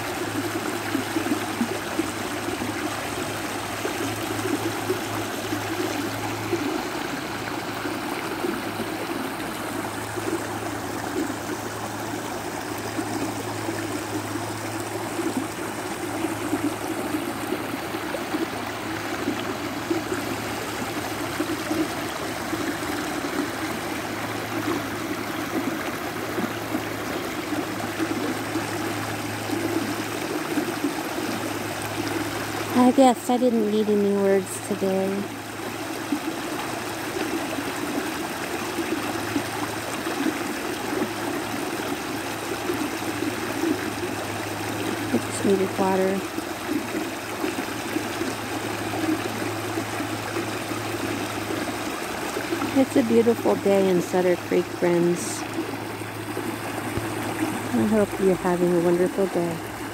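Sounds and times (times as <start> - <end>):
creek water rushing over stones: 0.0 - 59.9.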